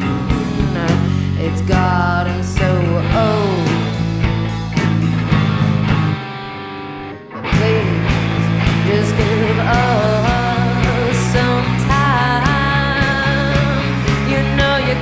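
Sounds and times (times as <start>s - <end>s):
drum kit: 0.0s - 6.7s, 7.4s - 15.0s
electric guitar: 0.0s - 15.0s.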